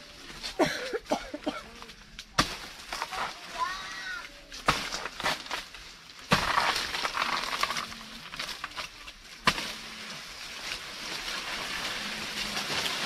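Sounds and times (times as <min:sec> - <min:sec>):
cut leaves rustling: 0:00.0 - 0:13.0.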